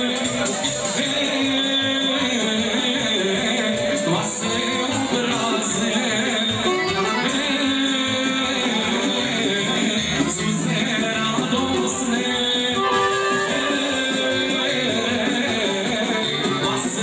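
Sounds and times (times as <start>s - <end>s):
folk band playing: 0.0s - 17.0s
person singing: 0.0s - 17.0s.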